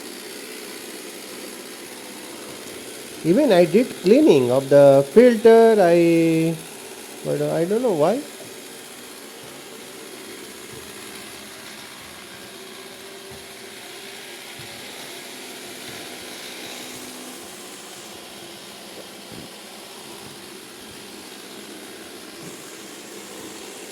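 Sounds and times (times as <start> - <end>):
robot vacuum running: 0.0 - 23.9.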